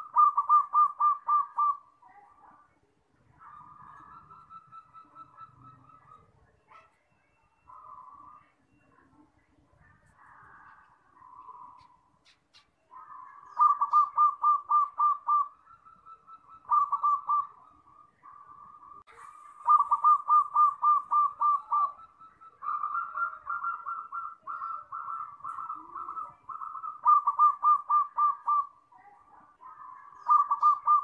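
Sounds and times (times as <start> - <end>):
dove cooing: 0.0 - 7.0, 9.8 - 31.0.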